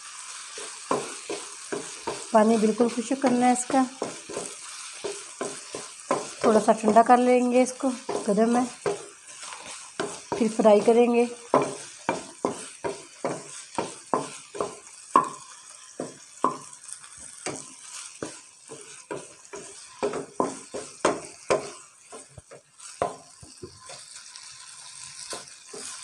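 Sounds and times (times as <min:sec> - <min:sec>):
chicken sizzling: 0:00.0 - 0:26.0
wooden spatula scraping a pan: 0:00.0 - 0:26.0.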